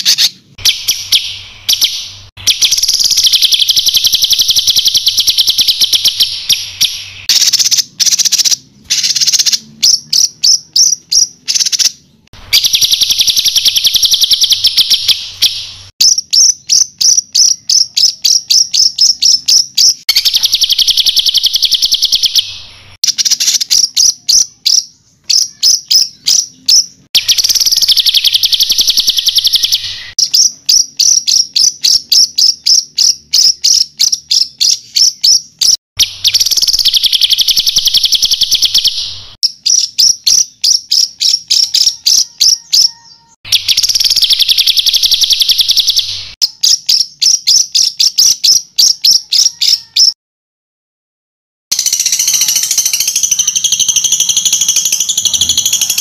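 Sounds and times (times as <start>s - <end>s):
songbird buzzy trills: 0.0s - 50.2s, 51.7s - 56.0s
songbird high repeated notes: 0.0s - 50.2s, 51.7s - 56.0s.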